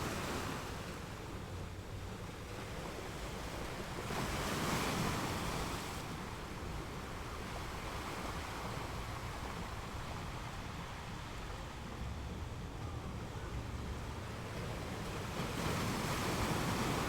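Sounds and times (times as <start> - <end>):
ocean waves breaking: 2.8 - 17.0
surf washing: 2.8 - 17.0.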